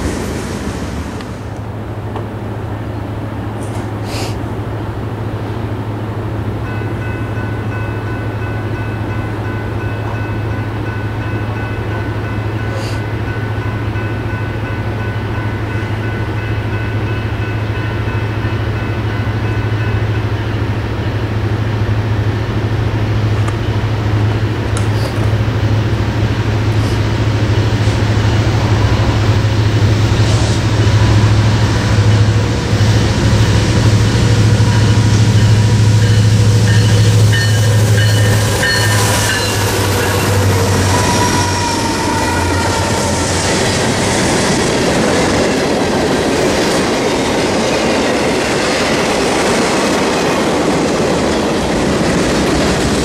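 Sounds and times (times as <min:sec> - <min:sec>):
diesel locomotive engine rumble: 0:00.0 - 0:53.0.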